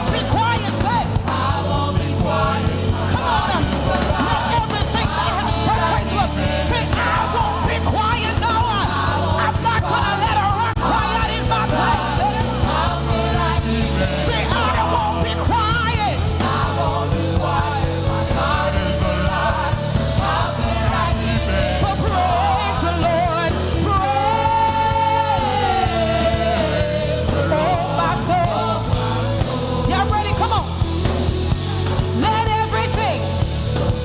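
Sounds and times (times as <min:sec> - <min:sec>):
live gospel band music: 0:00.0 - 0:34.0.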